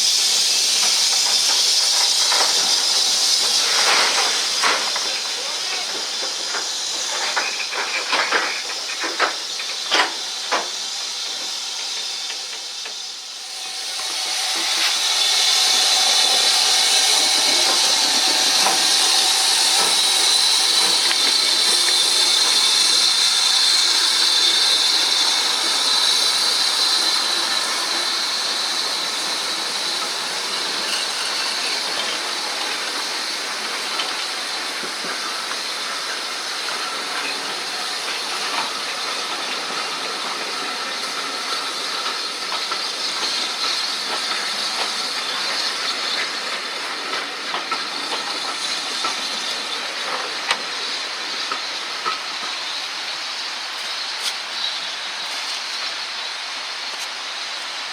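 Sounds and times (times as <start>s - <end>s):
locomotive steam hissing: 0.0s - 57.9s.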